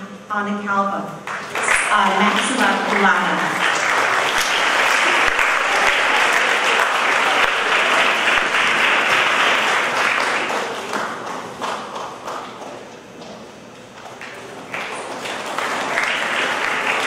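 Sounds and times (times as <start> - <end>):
audience applauding: 1.2 - 12.9, 14.0 - 17.0.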